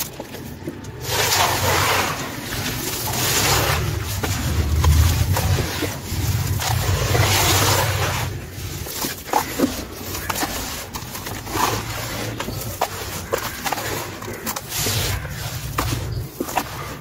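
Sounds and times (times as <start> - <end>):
hands rustling sand mix: 0.0 - 17.0
grit pouring through fingers: 0.9 - 17.0.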